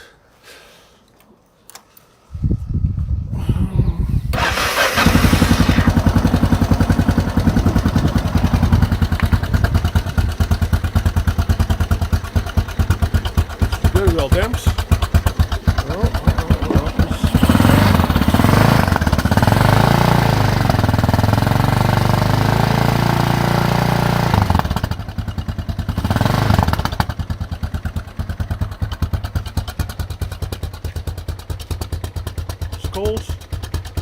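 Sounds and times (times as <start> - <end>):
motorcycle engine revving and idling: 4.2 - 34.0.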